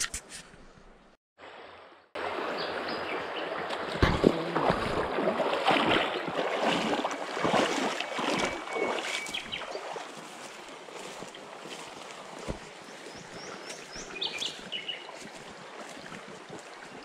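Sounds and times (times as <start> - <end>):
stream running over stones: 2.2 - 17.0.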